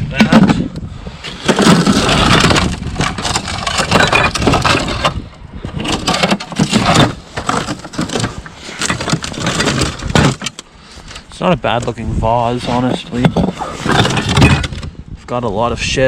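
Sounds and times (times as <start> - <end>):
plastic objects clattering: 0.1 - 11.3, 12.8 - 14.9.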